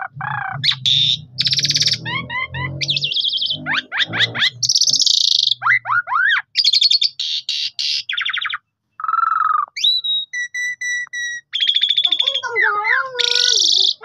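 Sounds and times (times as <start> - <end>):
starling singing chatter and trills: 0.0 - 14.0
clear whistled bird notes: 0.4 - 8.6, 9.2 - 12.6.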